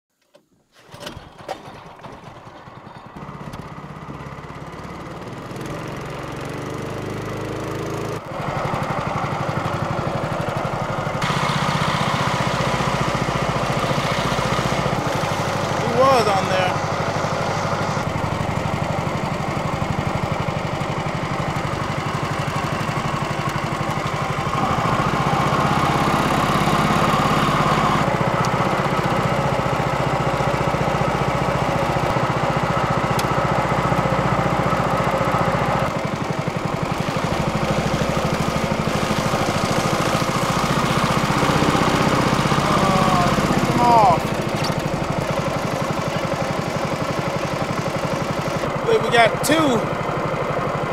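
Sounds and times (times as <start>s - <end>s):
small boat engine running: 0.8s - 50.9s.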